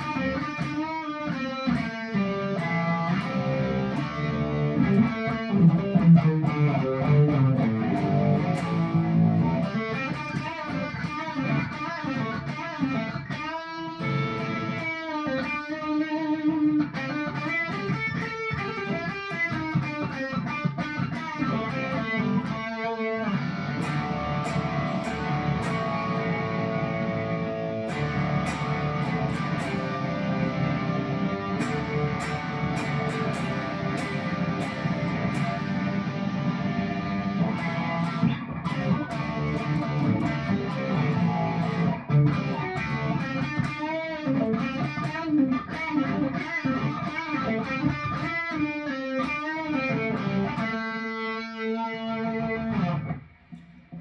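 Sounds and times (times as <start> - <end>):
overdriven electric guitar: 0.0 - 54.0.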